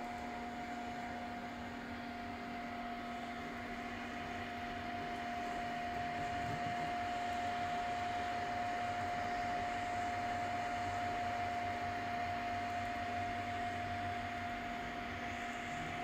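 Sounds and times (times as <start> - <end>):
constant whine: 0.0 - 16.0
cooling fans whirring: 0.0 - 16.0.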